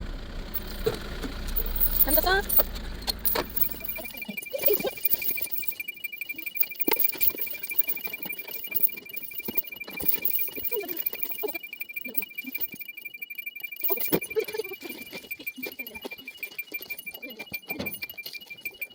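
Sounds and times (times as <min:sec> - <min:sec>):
high-pitched pulsing tone: 0:00.0 - 0:18.9.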